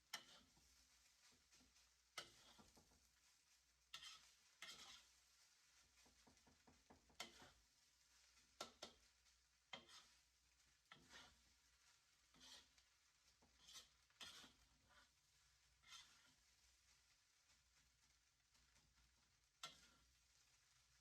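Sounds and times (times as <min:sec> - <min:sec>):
utensil stirring food in pan: 0:00.0 - 0:21.0.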